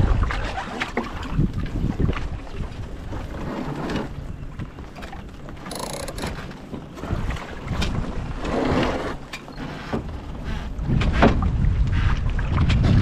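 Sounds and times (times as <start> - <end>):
wind buffeting microphone: 0.0 - 9.3, 10.0 - 13.0
water slapping against hulls: 0.0 - 13.0.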